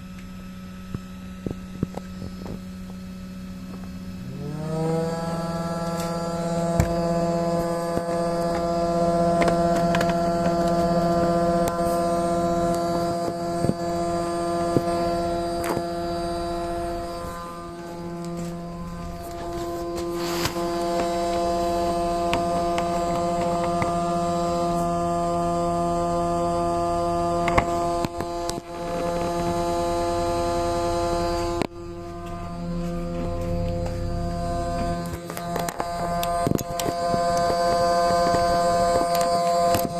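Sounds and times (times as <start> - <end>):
electrical buzzing hum: 0.0 - 39.9.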